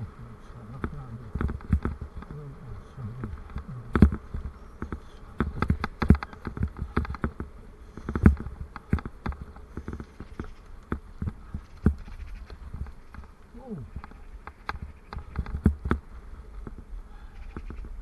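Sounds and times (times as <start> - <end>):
bicycle rattling over rough ground: 0.0 - 18.0.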